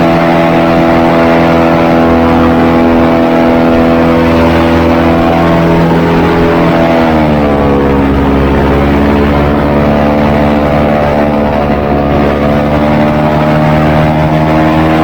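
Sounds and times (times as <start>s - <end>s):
airboat engine and propeller: 0.0s - 15.0s.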